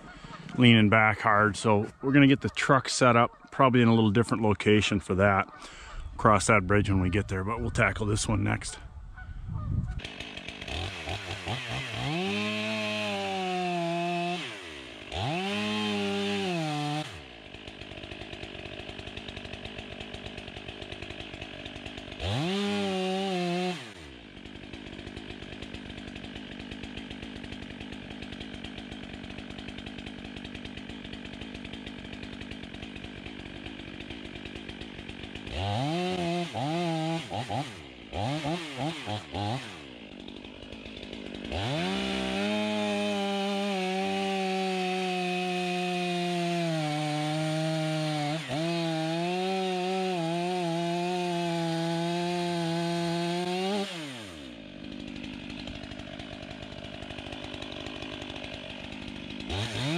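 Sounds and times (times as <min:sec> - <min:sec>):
chainsaw idling and revving: 0:00.0 - 0:02.2, 0:10.0 - 0:59.9.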